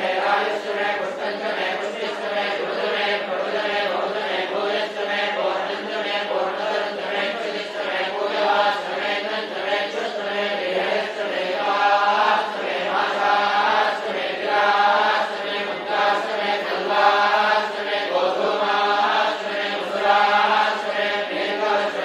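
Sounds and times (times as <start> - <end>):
mantras chanted: 0.0 - 22.0.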